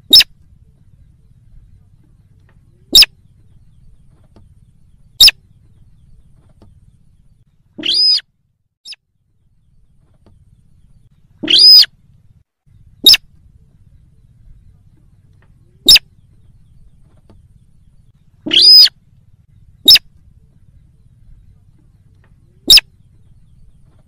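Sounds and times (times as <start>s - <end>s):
bird calling: 0.0s - 24.0s
faint low hum: 0.0s - 24.0s.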